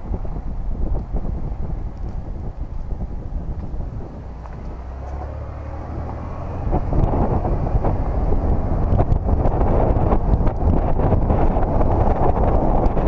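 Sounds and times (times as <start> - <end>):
car engine and road rumble: 0.0 - 13.0
wind buffeting microphone: 0.0 - 13.0.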